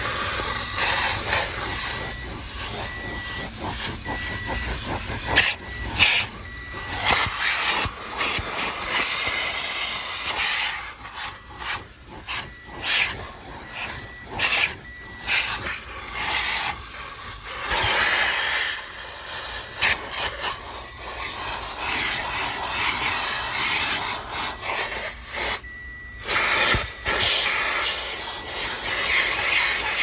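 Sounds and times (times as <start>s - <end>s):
faint high whistle: 0.0s - 30.0s
vacuum hose sucking air: 0.0s - 30.0s.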